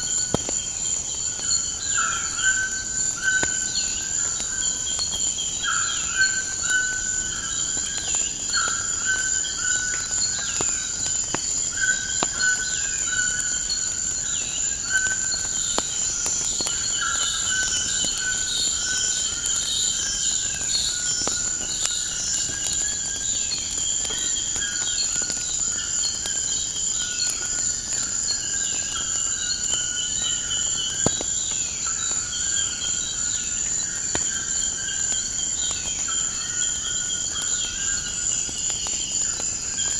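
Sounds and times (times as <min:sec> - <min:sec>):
insect trill: 0:00.0 - 0:39.9
wood fire crackling: 0:00.0 - 0:39.9.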